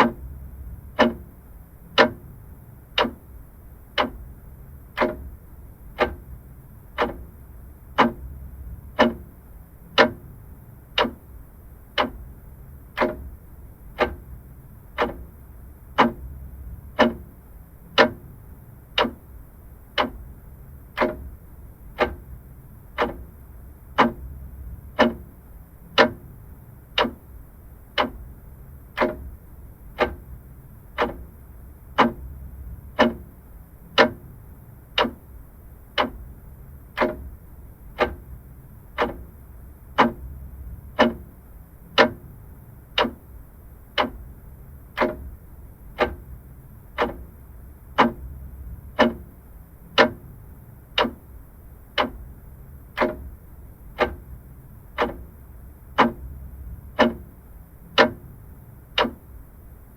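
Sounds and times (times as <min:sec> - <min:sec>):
faint low hum: 0:00.0 - 0:59.9
mechanical clock ticking: 0:00.0 - 0:59.9.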